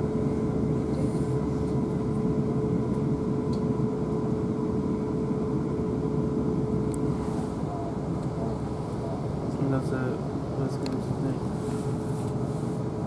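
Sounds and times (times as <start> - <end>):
constant train whine: 0.0 - 13.0.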